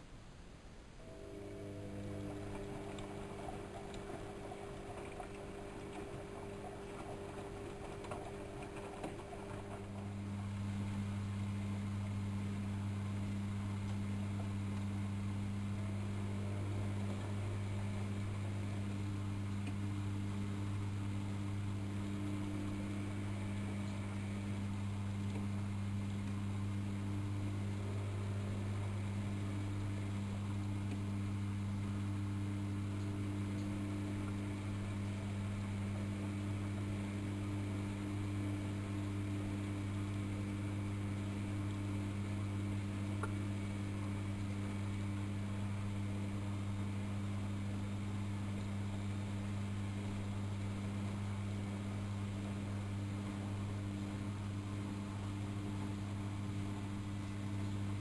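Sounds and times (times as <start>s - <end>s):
washing machine electrical hum: 0.0s - 58.0s.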